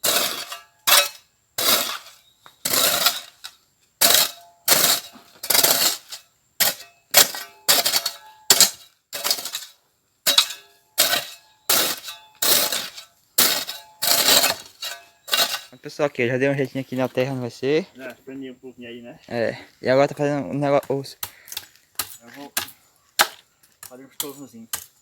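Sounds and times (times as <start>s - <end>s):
metal tool striking stony ground: 0.0s - 15.8s, 20.8s - 25.0s.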